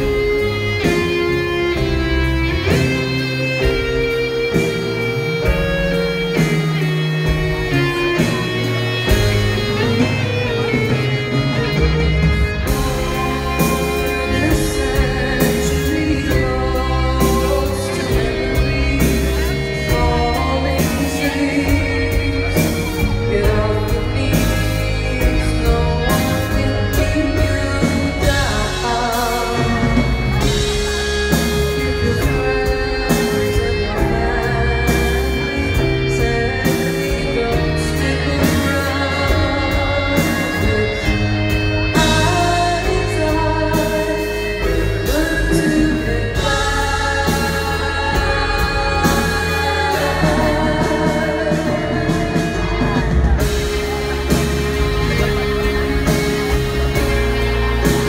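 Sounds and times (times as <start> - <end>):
live band music: 0.0 - 58.0
woman singing lead: 0.0 - 58.0.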